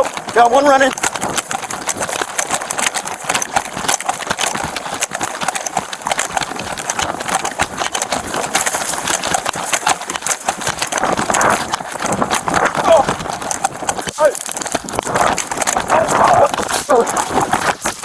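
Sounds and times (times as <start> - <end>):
gear rattling: 0.0 - 18.0
running footsteps: 0.0 - 18.0.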